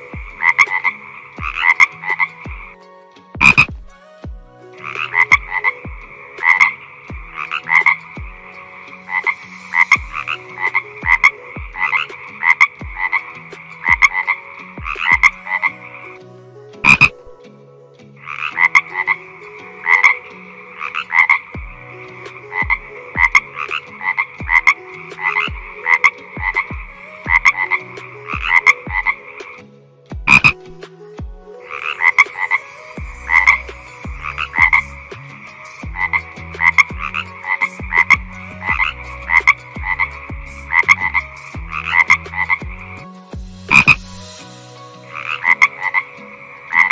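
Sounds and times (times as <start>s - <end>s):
frog croaking: 0.0s - 2.8s, 3.4s - 3.7s, 4.8s - 16.2s, 16.8s - 17.3s, 18.2s - 29.6s, 30.3s - 30.7s, 31.6s - 43.0s, 43.7s - 44.2s, 45.1s - 46.9s.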